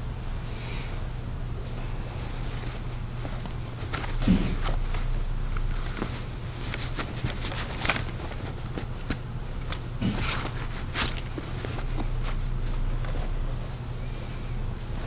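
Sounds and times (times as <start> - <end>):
steady low hum: 0.0 - 15.0
leather gloves rustling and crackling: 1.8 - 15.0.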